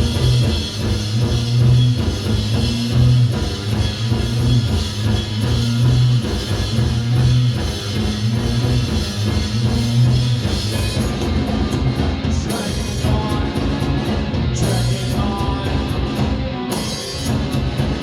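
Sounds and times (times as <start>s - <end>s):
bass line: 0.0s - 18.0s
drum kit beat: 0.0s - 18.0s
guitar: 0.0s - 18.0s.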